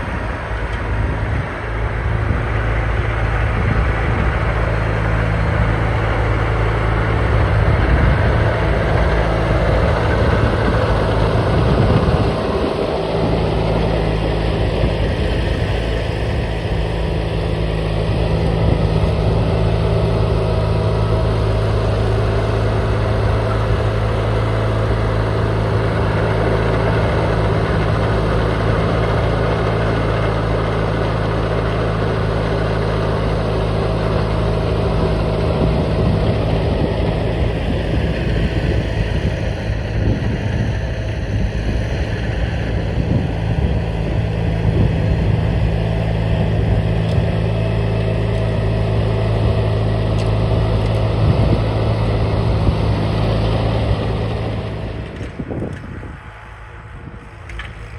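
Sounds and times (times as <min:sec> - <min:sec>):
garden tractor engine running: 0:00.0 - 0:57.9
snow blower running: 0:00.0 - 0:57.9.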